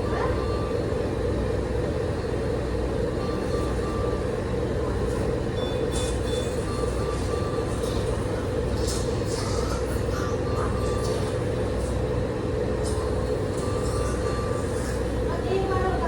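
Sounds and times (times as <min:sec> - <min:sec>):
medical alarm beeps: 0:00.0 - 0:01.0, 0:03.1 - 0:15.2
steady machine hum: 0:00.0 - 0:16.0.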